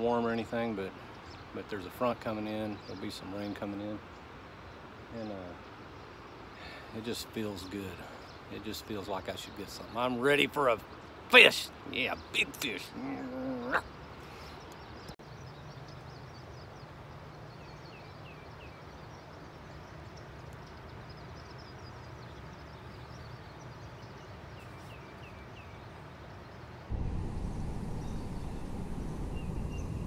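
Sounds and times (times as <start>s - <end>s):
small birds chirping: 0.0s - 27.0s, 27.6s - 30.0s.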